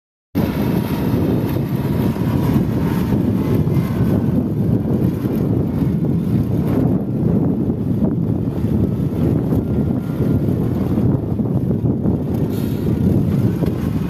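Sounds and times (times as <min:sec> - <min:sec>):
diesel engine running: 0:00.4 - 0:14.0.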